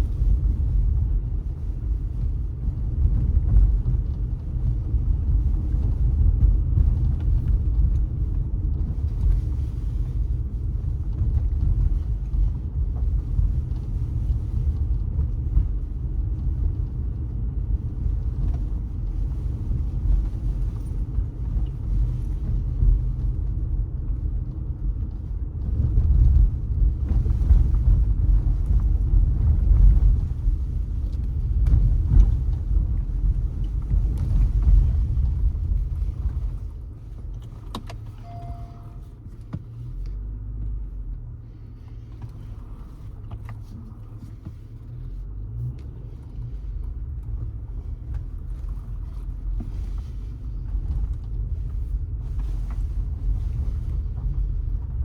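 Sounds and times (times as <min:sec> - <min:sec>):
car engine: 0:00.0 - 0:55.0
tyre road noise: 0:00.0 - 0:55.0.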